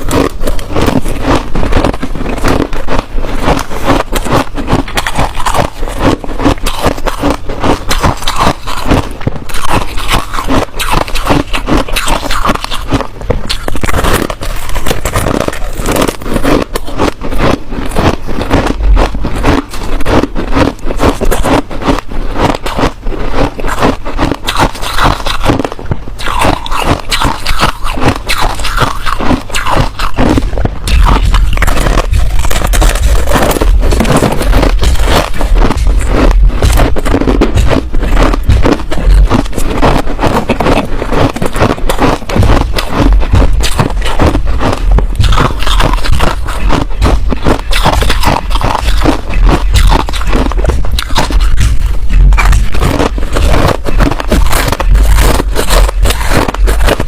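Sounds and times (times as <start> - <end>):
ice crunching being chewed: 0.0 - 57.0.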